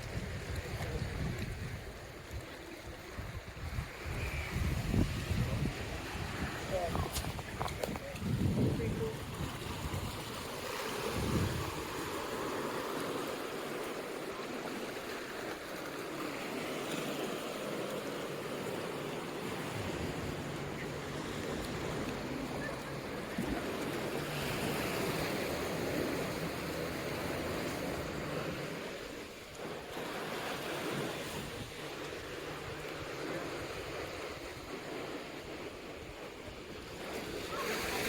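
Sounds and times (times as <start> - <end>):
ocean waves washing ashore: 0.0 - 38.0.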